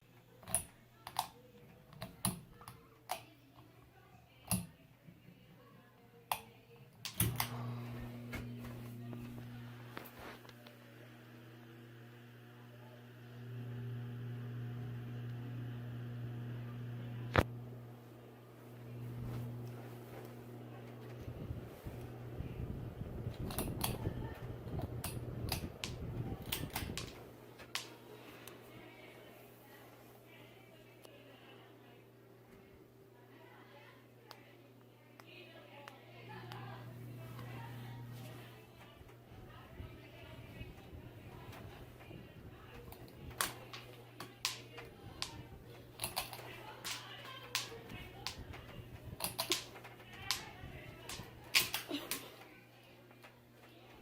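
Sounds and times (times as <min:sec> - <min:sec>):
ceiling fan motor humming: 0:00.0 - 0:54.0.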